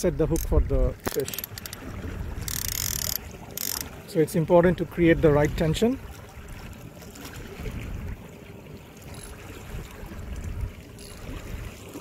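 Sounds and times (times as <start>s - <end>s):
water washing against boat: 0.0s - 12.0s.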